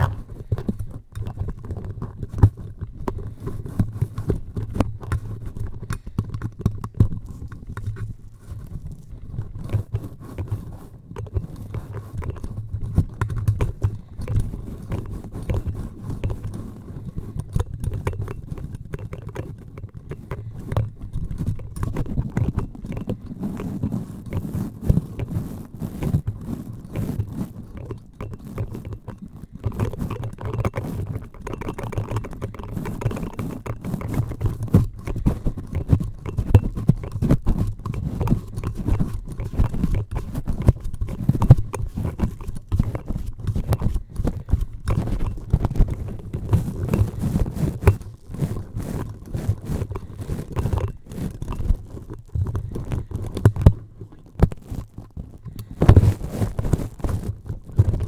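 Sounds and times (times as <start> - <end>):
scratching and tapping on microphone: 0.0 - 58.0.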